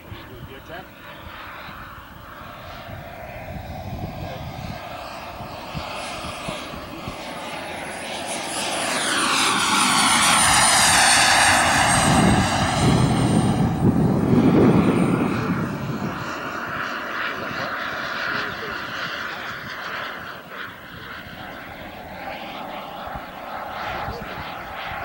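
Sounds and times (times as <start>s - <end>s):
jet turbine whine: 0.0s - 25.0s.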